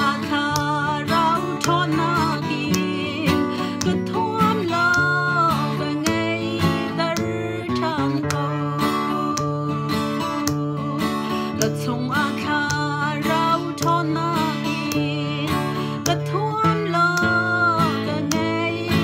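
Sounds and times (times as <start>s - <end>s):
strummed acoustic guitar: 0.0s - 19.0s
woman singing: 0.0s - 19.0s.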